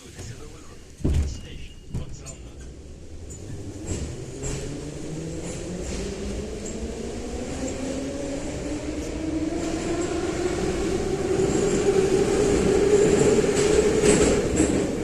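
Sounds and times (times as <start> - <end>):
metro train motors whining: 0.0 - 15.0.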